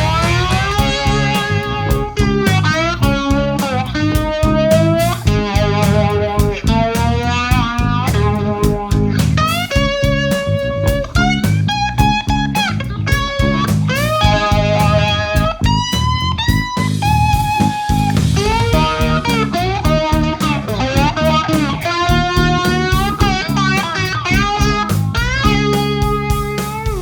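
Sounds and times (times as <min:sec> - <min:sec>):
bass guitar: 0:00.0 - 0:27.0
drum kit: 0:00.0 - 0:27.0
electric guitar lead: 0:00.0 - 0:27.0.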